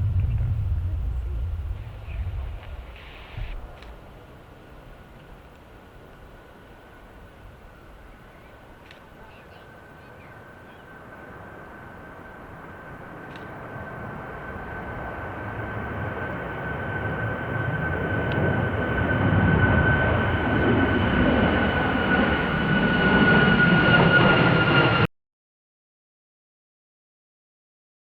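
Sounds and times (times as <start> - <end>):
jet airliner engines rumbling: 0.0 - 25.1.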